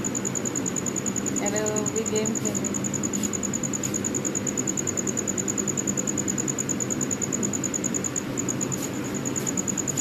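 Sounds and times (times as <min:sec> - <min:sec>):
insect chirping: 0:00.0 - 0:10.0
steady low hum: 0:00.0 - 0:10.0.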